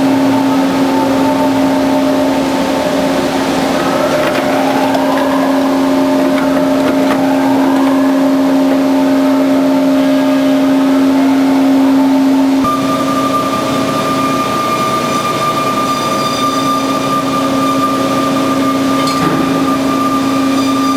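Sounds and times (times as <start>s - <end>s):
band saw motor hum: 0.0s - 20.9s.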